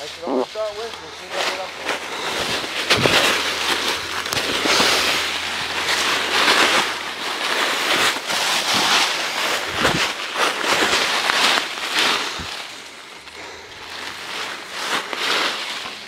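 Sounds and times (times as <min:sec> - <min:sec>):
footsteps crunching through dry leaves: 0:00.0 - 0:16.0.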